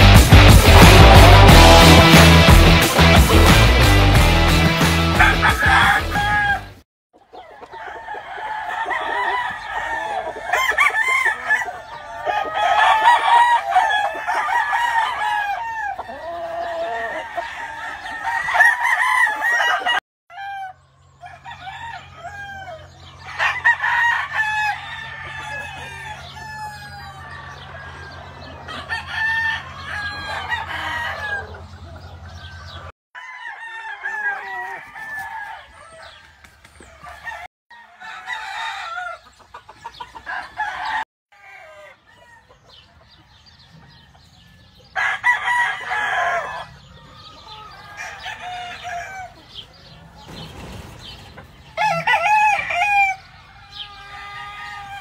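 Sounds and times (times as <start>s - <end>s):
roosters crowing: 0.0s - 55.0s.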